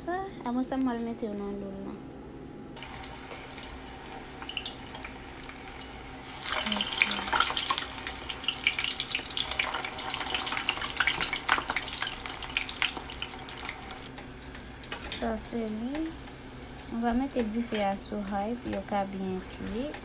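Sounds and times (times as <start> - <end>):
oil sizzling and crackling: 2.8 - 20.0.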